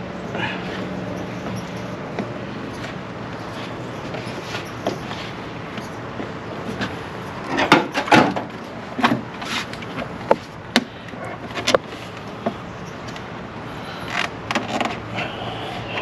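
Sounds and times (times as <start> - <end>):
engine parts clicking and knocking: 0.2 - 16.0.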